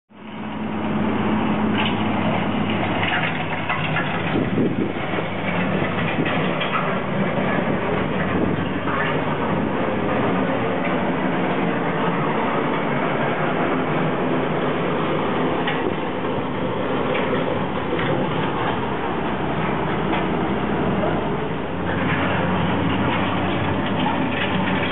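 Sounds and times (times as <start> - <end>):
heavy construction machinery running: 0.1 - 24.9.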